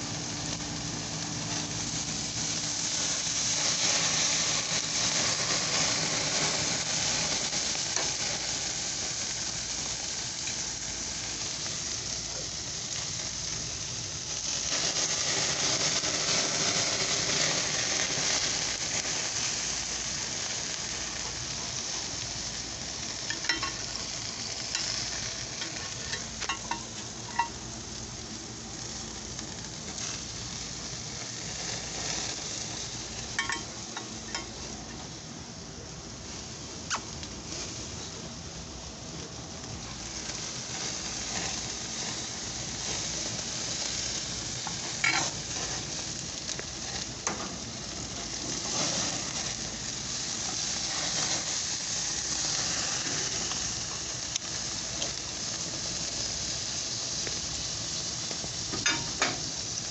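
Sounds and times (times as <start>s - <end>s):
meat sizzling on a grill: 0.0s - 59.9s.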